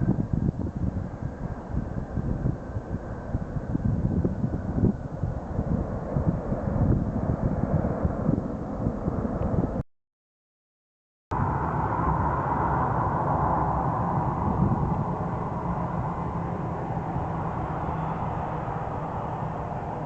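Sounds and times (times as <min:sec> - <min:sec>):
jet airliner engines rumbling: 0:00.0 - 0:09.8, 0:11.3 - 0:20.0.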